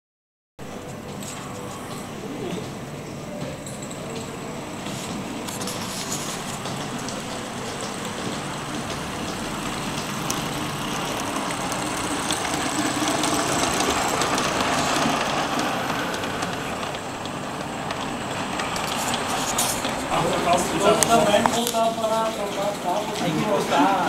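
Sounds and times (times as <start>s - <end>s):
model train running on track: 0.7s - 24.0s.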